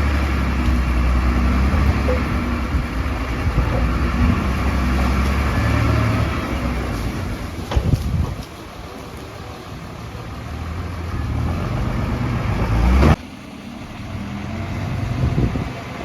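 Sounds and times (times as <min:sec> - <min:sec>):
diesel engine of heavy machinery: 0:00.0 - 0:16.0.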